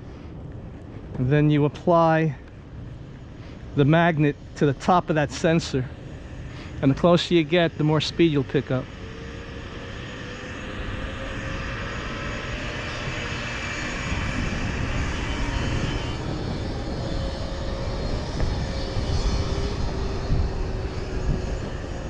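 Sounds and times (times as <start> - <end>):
faint motor whine: 0.0 - 22.0
wind rushing over microphone: 0.0 - 22.0.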